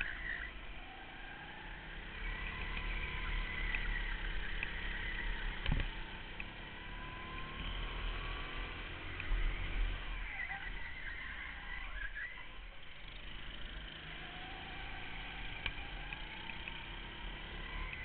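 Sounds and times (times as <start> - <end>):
go-kart motor whine: 0.0 - 18.0.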